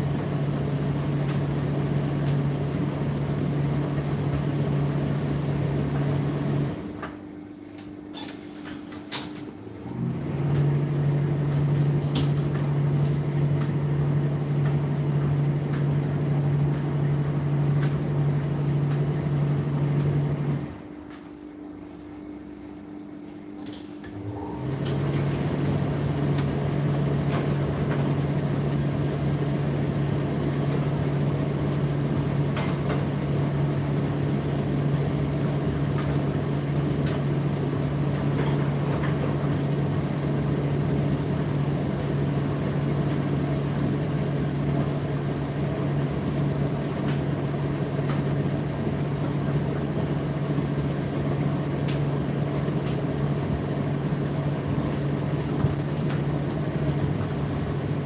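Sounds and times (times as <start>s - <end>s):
tumble dryer running: 0.0s - 58.0s.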